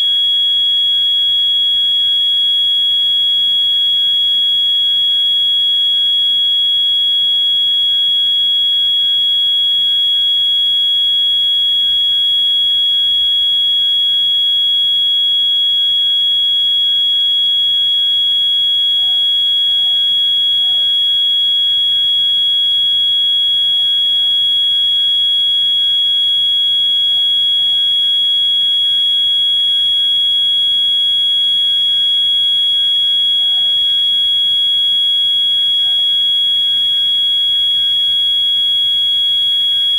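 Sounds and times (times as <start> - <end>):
fire alarm tone: 0.0 - 39.9.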